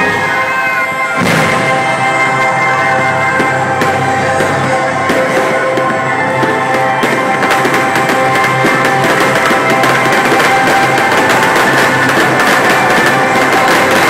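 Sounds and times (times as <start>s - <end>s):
fireworks crackling and popping: 0.0s - 14.0s
loud music with held chords: 0.0s - 14.0s.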